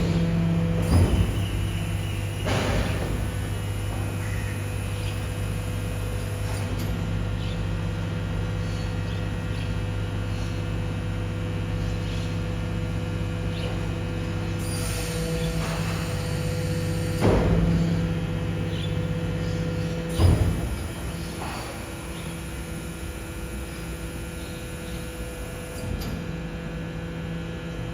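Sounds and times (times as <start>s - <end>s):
hydraulic compactor humming: 0.0s - 27.9s.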